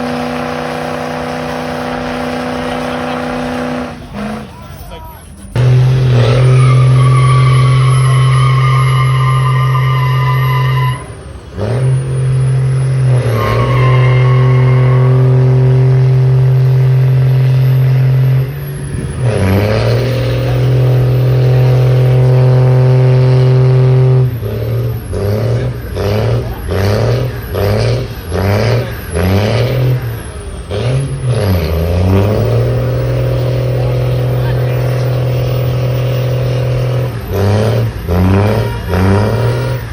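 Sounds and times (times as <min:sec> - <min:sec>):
high tyre squeal: 0:00.0 - 0:39.9
truck engine revving: 0:00.0 - 0:39.9.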